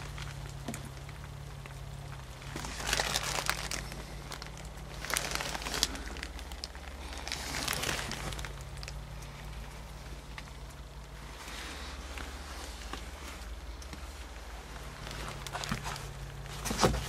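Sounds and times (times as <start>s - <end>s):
low steady hum: 0.0s - 17.0s
rustling and handling noise: 0.0s - 17.0s.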